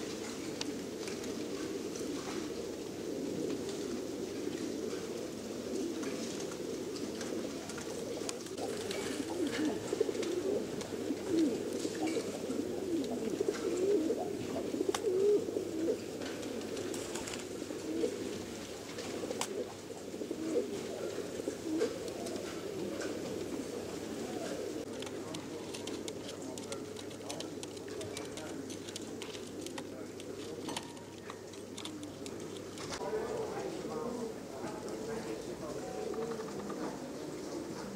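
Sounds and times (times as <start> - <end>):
pigeons cooing: 0.0 - 37.9.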